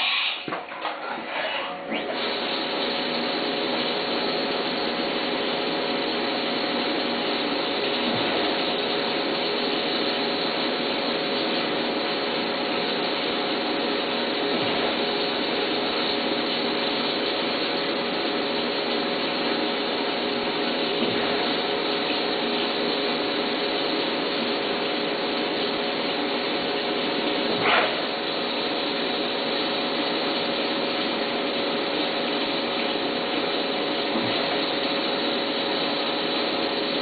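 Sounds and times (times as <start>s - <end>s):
mill cutting aluminum with whine: 0.0s - 37.0s
coolant spraying: 1.9s - 37.0s.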